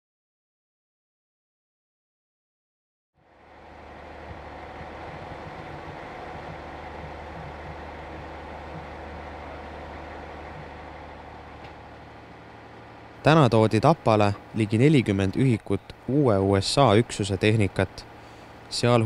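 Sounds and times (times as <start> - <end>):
engine idling: 3.2 - 19.0.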